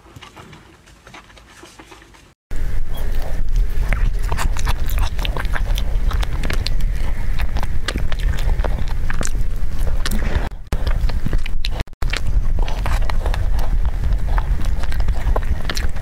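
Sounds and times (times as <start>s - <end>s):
wet chewing and lip-smacking: 1.0s - 16.0s
steady low rumble: 2.5s - 16.0s.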